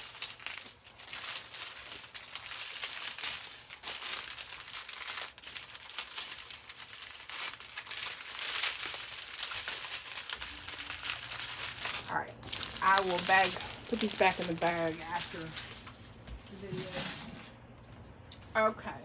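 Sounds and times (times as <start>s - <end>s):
plastic packaging crinkling: 0.0s - 17.7s.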